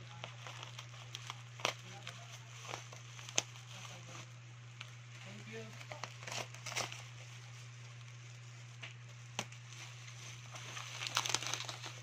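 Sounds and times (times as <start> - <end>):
bubble wrap crinkling: 0.0 - 12.0
steady low hum: 0.0 - 12.0.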